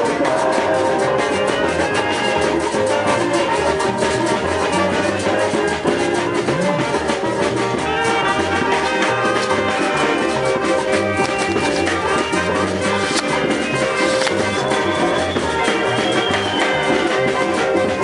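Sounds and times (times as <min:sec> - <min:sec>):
brass band music: 0:00.0 - 0:18.0
drums beating: 0:00.0 - 0:18.0.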